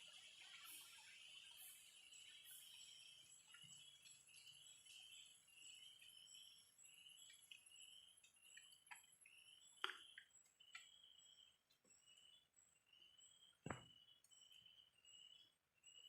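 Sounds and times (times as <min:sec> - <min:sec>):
insect trill: 0:00.0 - 0:16.0
insects chirping: 0:00.0 - 0:16.0.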